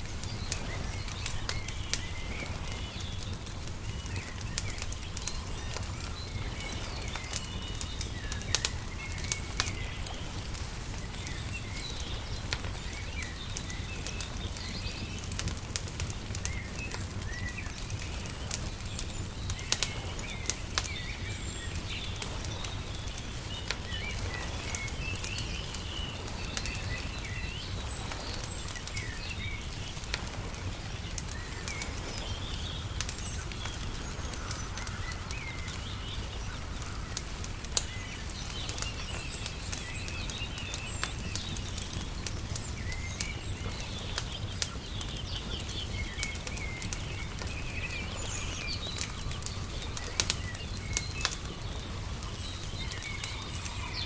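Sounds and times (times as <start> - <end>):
small birds chirping: 0.0 - 54.0
wood fire crackling and popping: 0.0 - 54.0.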